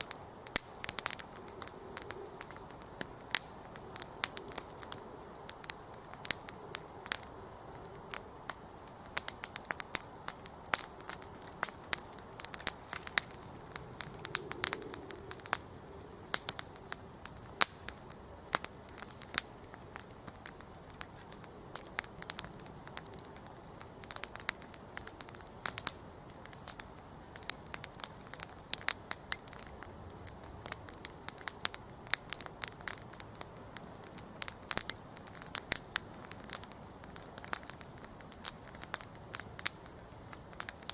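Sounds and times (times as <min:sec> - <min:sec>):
campfire crackling and popping: 0:00.0 - 0:40.9
flame hissing: 0:00.0 - 0:40.9.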